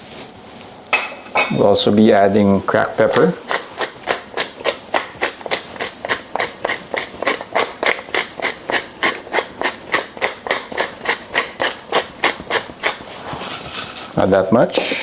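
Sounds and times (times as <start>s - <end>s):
peppercorns crunching in grinder: 1.9s - 14.5s.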